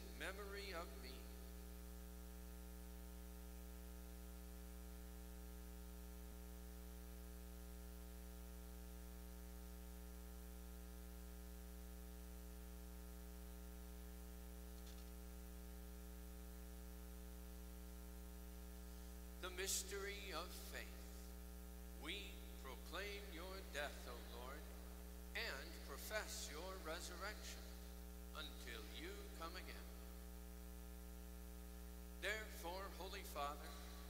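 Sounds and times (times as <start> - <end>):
electrical mains hum with hiss: 0.0 - 34.0.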